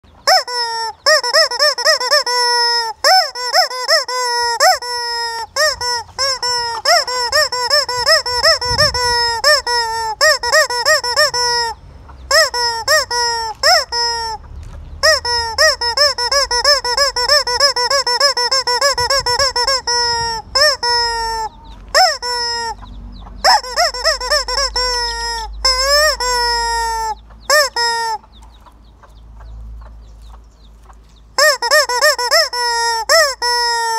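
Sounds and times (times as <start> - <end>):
rubber squeeze toy squeaking: 0.2 - 14.4, 15.0 - 28.3, 31.4 - 33.9.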